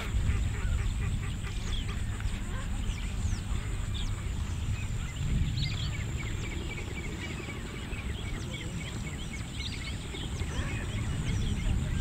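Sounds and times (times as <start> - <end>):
bird chirps and calls: 0.0 - 12.0.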